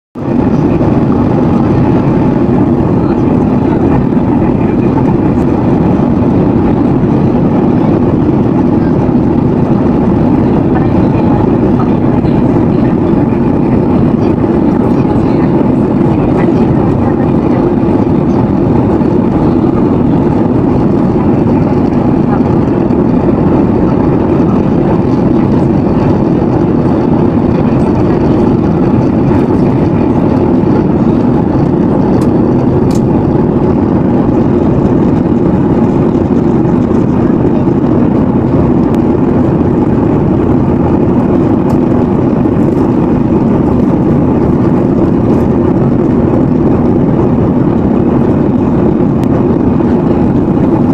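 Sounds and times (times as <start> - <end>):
airliner cabin engine rumble: 0.2 - 50.9.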